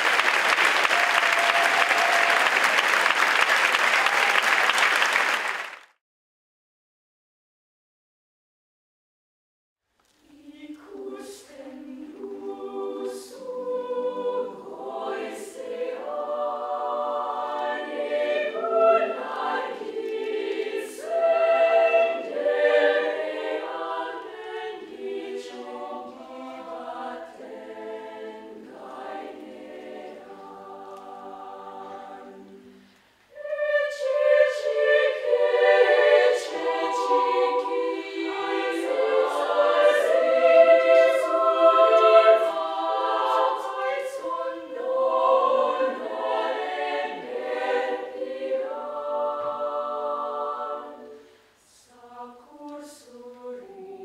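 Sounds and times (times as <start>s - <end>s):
children's choir singing: 10.3s - 54.0s.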